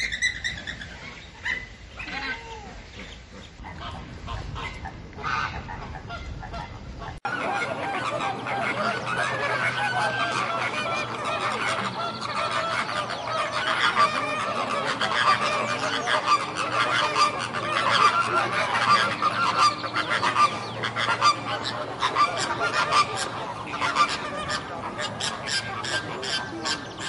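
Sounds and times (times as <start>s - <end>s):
flamingos calling: 0.0s - 27.0s.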